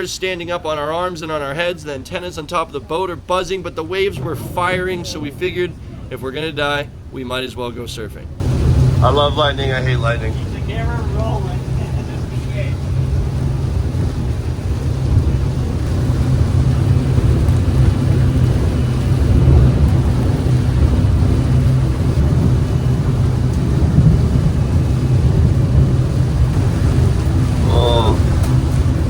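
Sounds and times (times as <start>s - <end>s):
boat engines droning: 0.0s - 29.0s.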